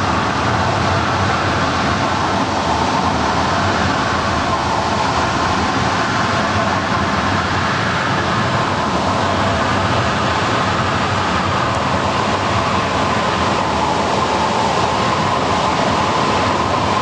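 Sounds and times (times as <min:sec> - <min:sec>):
water rushing from dam outlet: 0:00.0 - 0:17.0.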